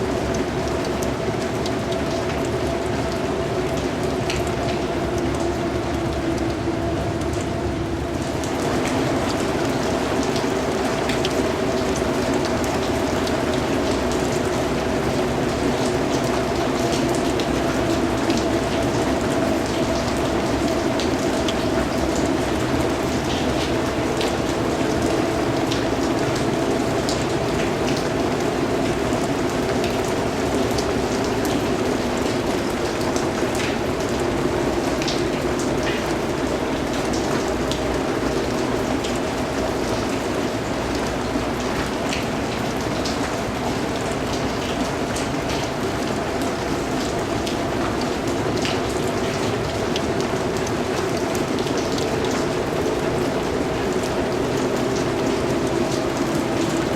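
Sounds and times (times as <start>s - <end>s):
raindrops ticking: 0.0s - 56.9s
steady rain hiss: 0.0s - 56.9s.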